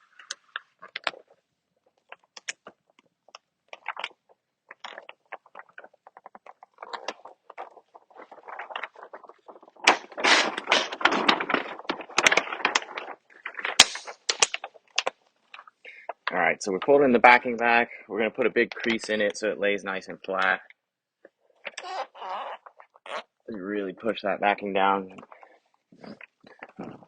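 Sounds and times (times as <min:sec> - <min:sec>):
backing paper crackling: 0:00.0 - 0:17.6, 0:21.6 - 0:27.0.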